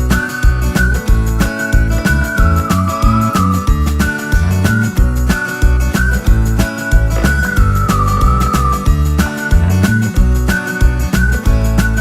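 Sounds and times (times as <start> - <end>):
high whistle-like melody: 0.0 - 12.0
upbeat background music: 0.0 - 12.0.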